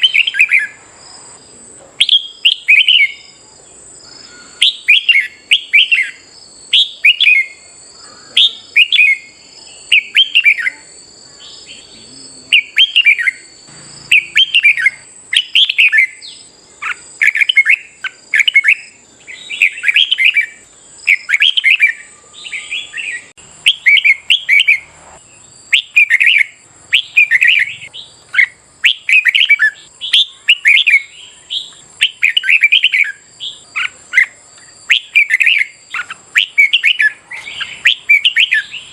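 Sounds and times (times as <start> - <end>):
birds singing warbled whistles: 0.0 - 38.9
faint high-pitched whine: 0.0 - 38.9.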